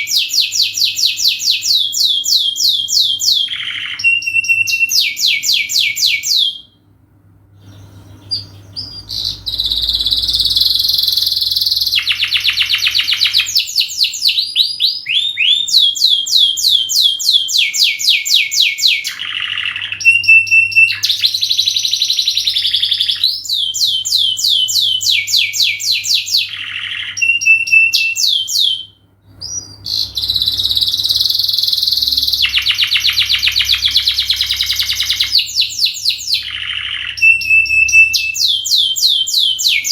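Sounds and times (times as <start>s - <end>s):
canary singing trills: 0.0s - 6.8s, 7.6s - 39.9s
faint low hum: 0.0s - 39.8s.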